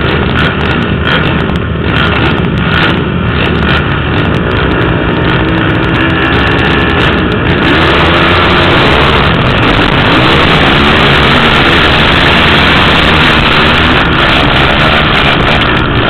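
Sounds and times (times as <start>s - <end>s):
atv engines revving: 0.0s - 16.0s.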